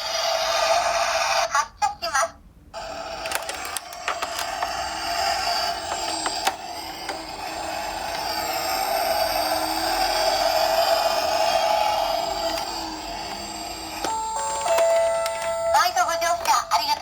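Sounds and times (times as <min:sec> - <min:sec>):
toy car wheels rolling: 0:02.8 - 0:17.0.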